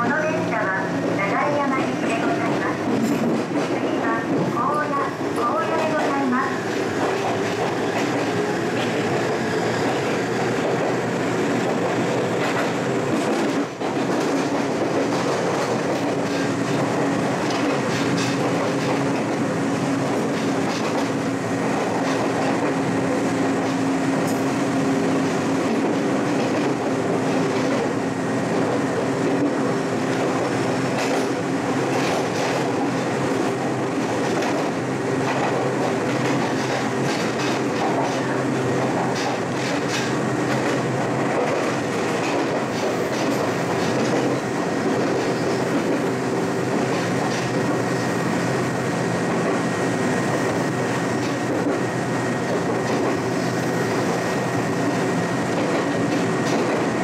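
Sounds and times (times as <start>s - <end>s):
steady train hum: 0.0s - 57.0s
train running on rails: 0.0s - 57.0s.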